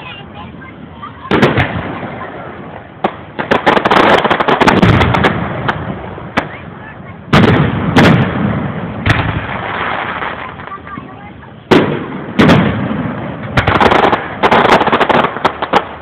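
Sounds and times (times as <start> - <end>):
crackling firework bangs: 0.0 - 16.0
firework booms echoing: 0.0 - 16.0.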